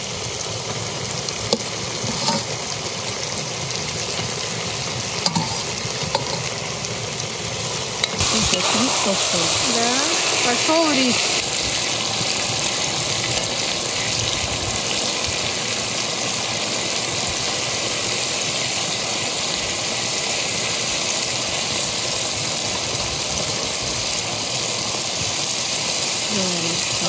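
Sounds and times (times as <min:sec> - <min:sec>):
meat and vegetables sizzling in oil: 0:00.0 - 0:27.0.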